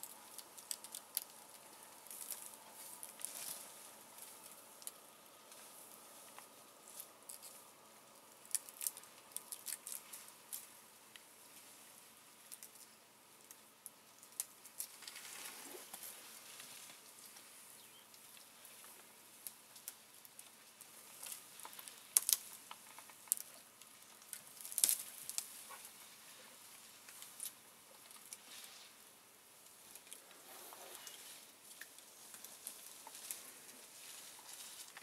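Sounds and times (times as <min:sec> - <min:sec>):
leaves and twigs rustling and snapping: 0:00.0 - 0:35.0.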